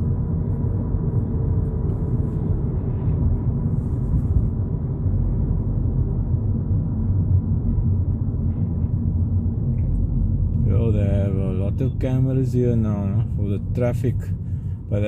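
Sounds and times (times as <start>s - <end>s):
car interior road and engine noise: 0.0s - 15.0s.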